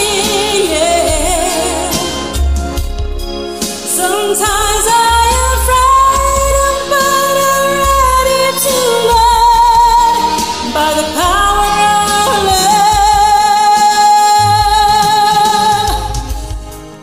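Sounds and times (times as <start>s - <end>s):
woman singing: 0.0s - 2.4s, 3.8s - 16.6s
karaoke backing track: 0.0s - 17.0s.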